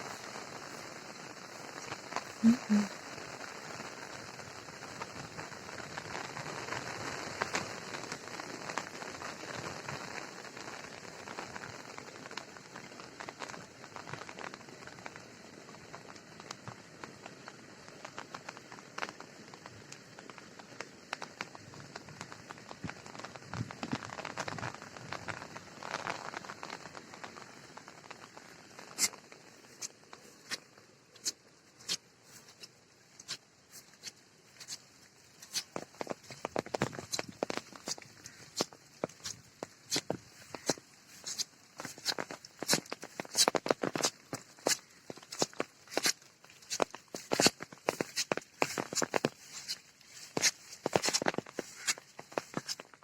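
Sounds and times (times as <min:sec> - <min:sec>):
rain falling: 0:00.0 - 0:53.0.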